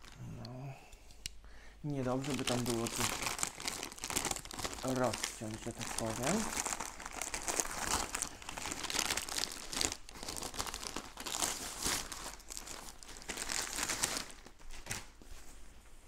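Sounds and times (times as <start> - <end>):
plastic bag crinkling: 0.0 - 0.5, 2.0 - 15.2.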